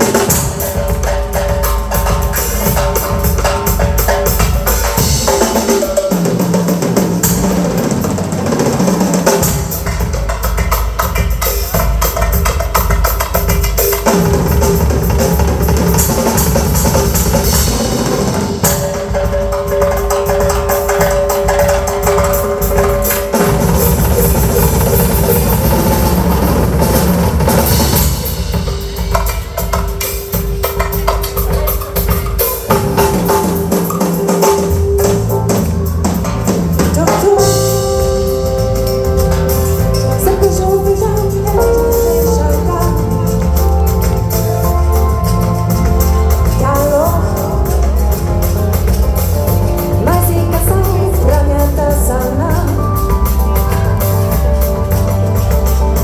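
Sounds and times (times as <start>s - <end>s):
bass: 0.0s - 56.0s
drum kit and percussion: 0.0s - 56.0s
live latin band music: 0.0s - 56.0s.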